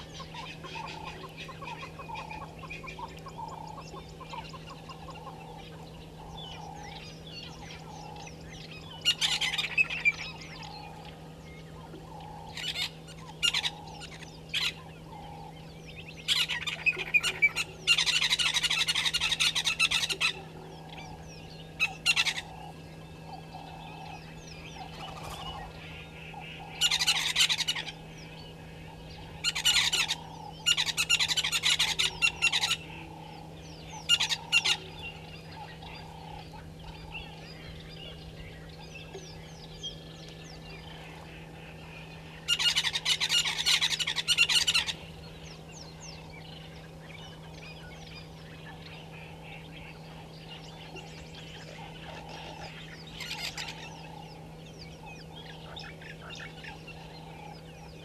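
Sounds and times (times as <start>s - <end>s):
birds giving harsh rasps: 0.0s - 58.0s
steady low hum: 0.0s - 58.0s.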